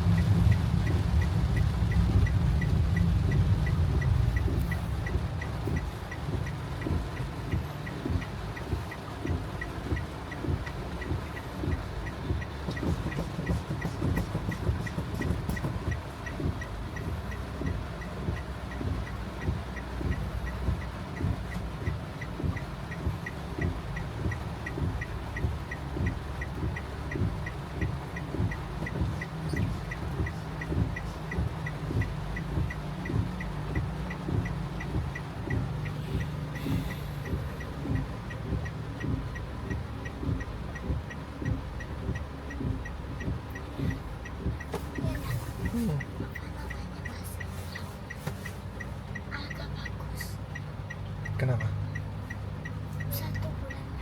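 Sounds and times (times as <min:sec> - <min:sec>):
car engine idling: 0:00.0 - 0:54.0
fast even ticking: 0:00.0 - 0:54.0
rain drumming on car body: 0:00.0 - 0:54.0
windshield wipers sweeping: 0:00.0 - 0:54.0.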